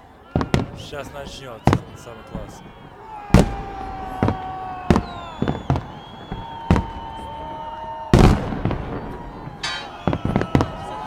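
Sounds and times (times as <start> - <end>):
fireworks bangs: 0.2 - 11.0.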